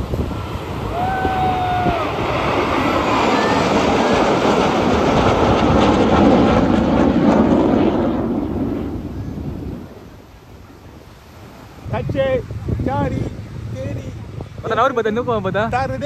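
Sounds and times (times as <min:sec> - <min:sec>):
jet aircraft roar overhead: 0:00.0 - 0:16.0.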